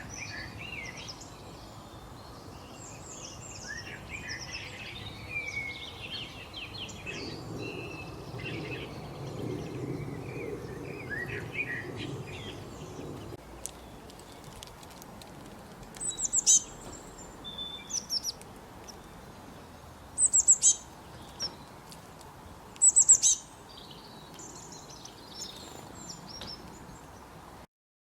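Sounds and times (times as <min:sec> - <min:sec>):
songbird chirping: 0:00.0 - 0:27.6.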